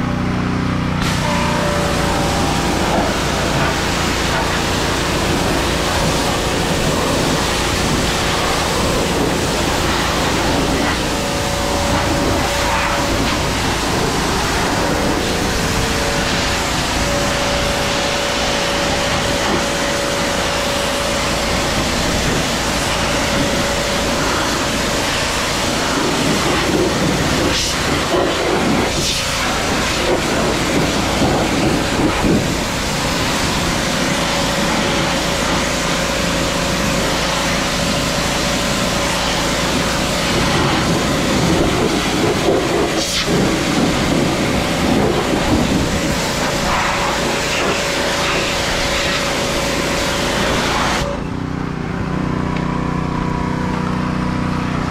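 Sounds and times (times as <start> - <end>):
pressure washer spraying water: 0.0 - 54.9.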